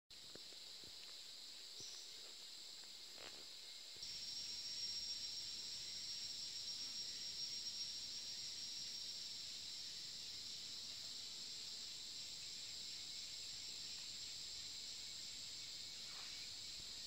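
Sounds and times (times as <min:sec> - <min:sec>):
forest insects chirping: 0:00.1 - 0:17.0.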